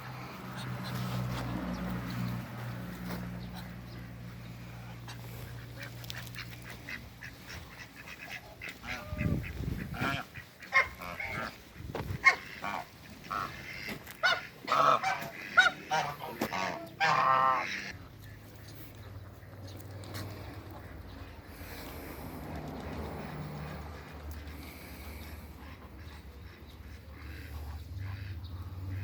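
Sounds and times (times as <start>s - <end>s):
waterfowl calling: 3.1s - 22.3s, 23.0s - 29.0s.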